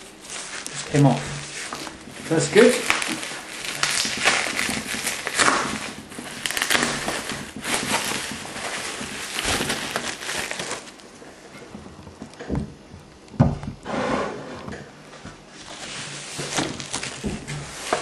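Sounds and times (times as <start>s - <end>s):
packaging rustling and crinkling: 0.0s - 13.9s, 14.6s - 18.0s.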